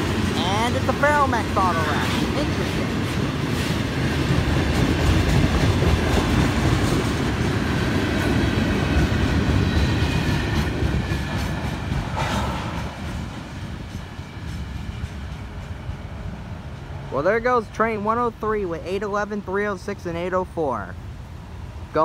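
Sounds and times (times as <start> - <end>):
freight cars rolling on rails: 0.0 - 21.0.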